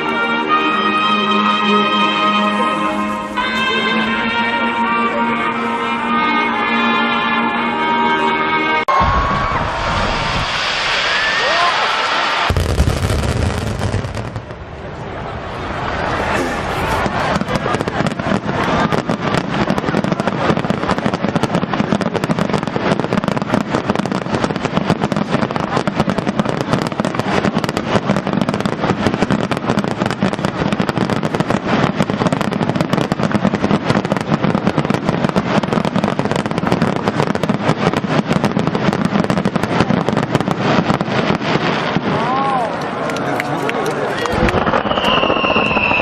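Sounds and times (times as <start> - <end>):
fireworks bursting: 0.0 - 8.0, 8.8 - 46.0.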